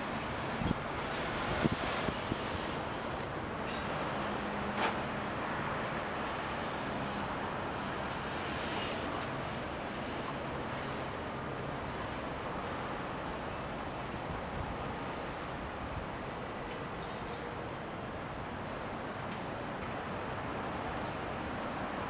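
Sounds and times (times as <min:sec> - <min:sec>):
traffic-like background noise: 0:00.0 - 0:22.0.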